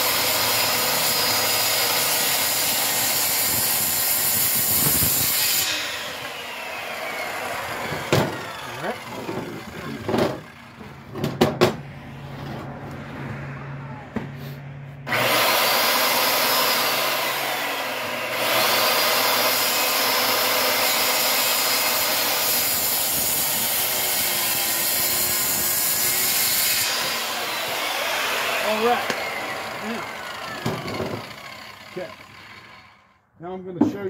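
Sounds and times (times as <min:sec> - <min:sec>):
circular saw cutting wood: 0:00.0 - 0:11.1, 0:15.1 - 0:33.2.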